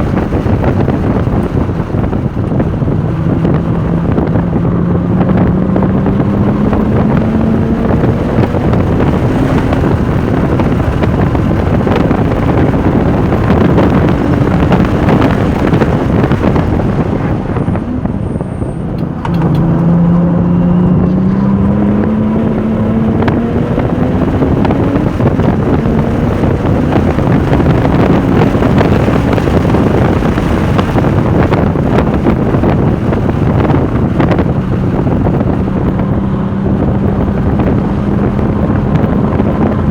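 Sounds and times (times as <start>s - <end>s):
car engine accelerating: 0.0s - 39.9s
wind rush: 0.0s - 39.9s.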